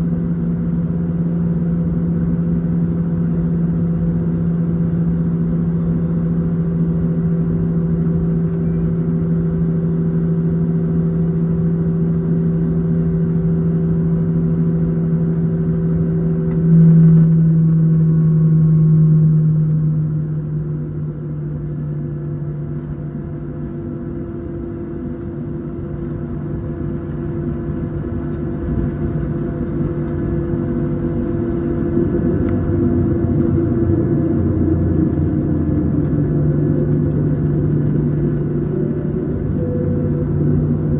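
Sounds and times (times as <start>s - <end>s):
jet engines droning in cabin: 0.0s - 40.9s.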